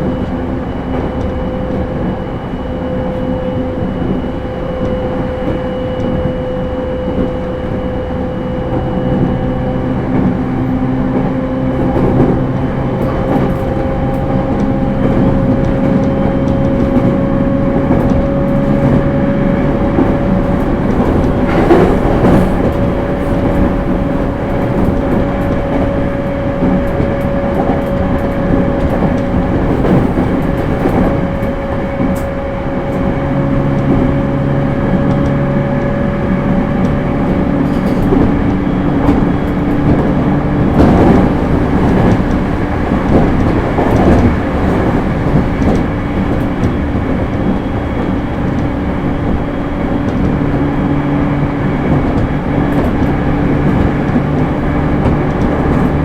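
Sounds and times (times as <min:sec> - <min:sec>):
wheel-on-rail rumble: 0:00.0 - 0:56.0
electric train motor whine: 0:00.2 - 0:56.0.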